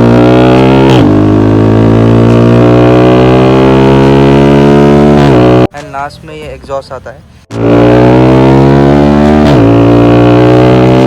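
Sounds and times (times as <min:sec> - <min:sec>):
motorcycle engine accelerating: 0:00.0 - 0:05.7, 0:07.5 - 0:11.0.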